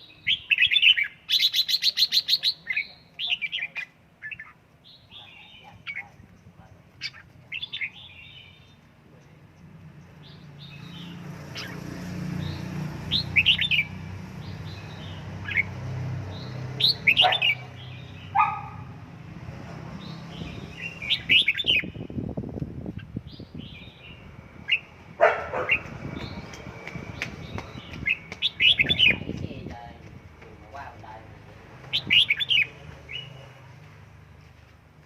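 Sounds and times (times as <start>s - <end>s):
bird chirping: 0.0s - 18.9s, 20.0s - 29.8s, 31.8s - 33.6s.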